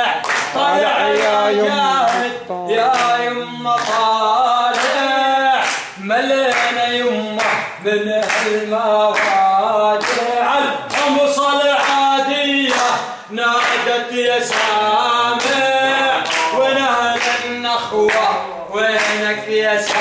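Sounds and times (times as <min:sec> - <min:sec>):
men singing together: 0:00.0 - 0:20.0
rhythmic hand clapping: 0:00.0 - 0:20.0.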